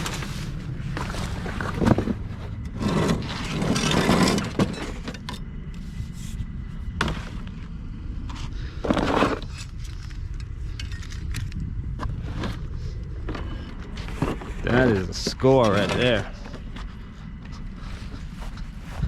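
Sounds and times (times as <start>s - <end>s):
objects scraping and shuffling: 0.0s - 7.7s, 8.3s - 11.4s, 12.0s - 19.0s
low rumble: 0.0s - 19.0s.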